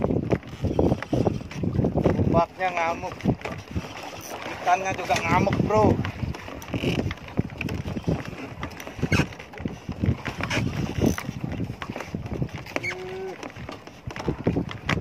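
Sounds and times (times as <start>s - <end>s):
waves against boat: 0.0s - 15.0s
wind buffeting microphone: 0.0s - 15.0s.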